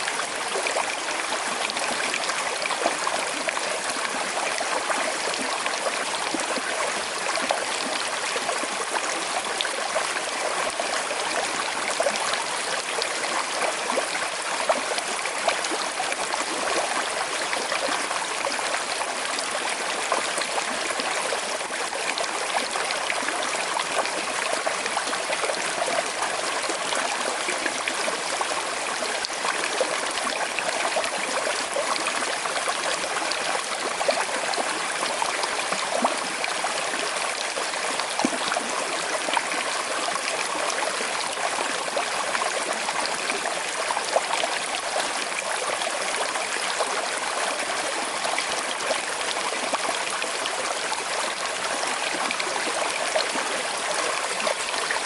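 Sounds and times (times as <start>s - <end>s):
small river flowing over stones: 0.0s - 55.0s.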